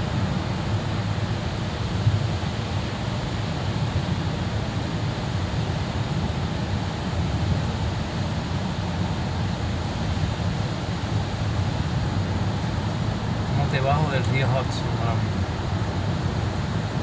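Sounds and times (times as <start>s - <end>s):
low engine rumble: 0.0s - 17.0s
road and tyre noise: 0.0s - 17.0s.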